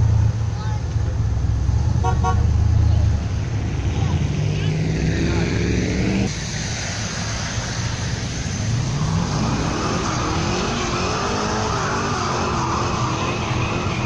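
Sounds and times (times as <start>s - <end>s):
car engine revving: 0.0s - 14.0s
rumble of cars driving past: 0.0s - 14.0s.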